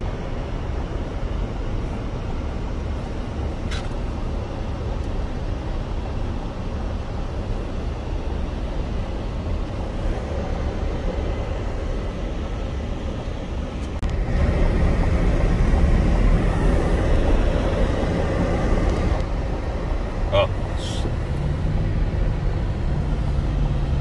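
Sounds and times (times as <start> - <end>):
vehicle engine and tyre rumble: 0.0 - 24.0.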